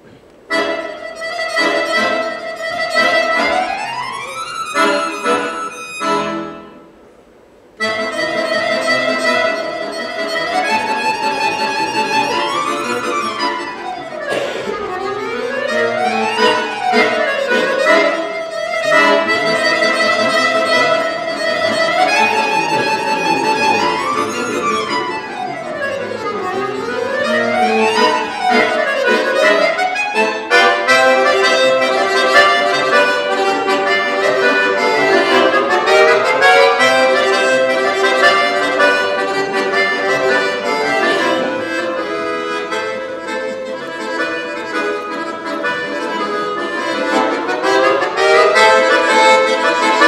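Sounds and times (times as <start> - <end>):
button accordion playing: 0.5 - 7.0, 7.8 - 50.0.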